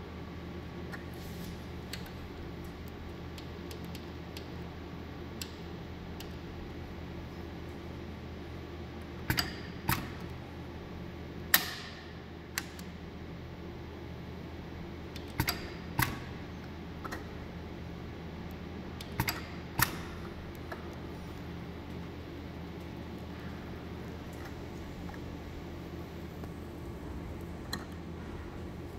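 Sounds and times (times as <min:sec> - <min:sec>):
low machine hum: 0:00.0 - 0:28.9.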